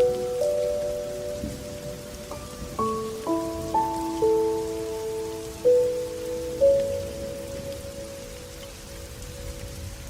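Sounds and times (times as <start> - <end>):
soft sustained melody notes: 0.0 - 10.0
steady rain: 0.0 - 10.0.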